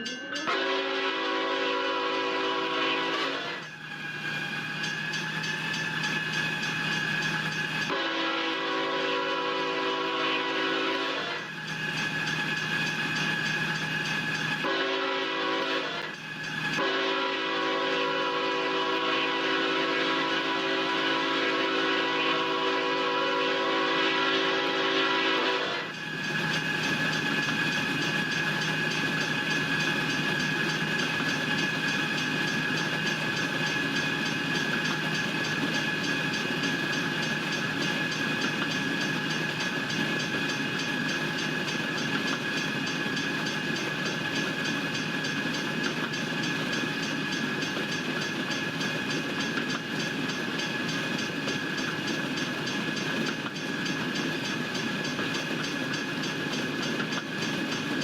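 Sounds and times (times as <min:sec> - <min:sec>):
train wheels rumbling and clacking: 0:00.0 - 0:58.0.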